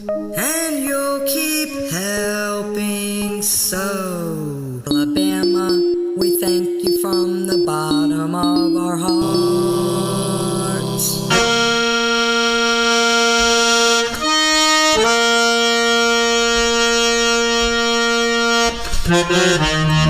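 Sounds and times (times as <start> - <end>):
instrumental music with held chords: 0.0 - 4.1, 4.9 - 20.0.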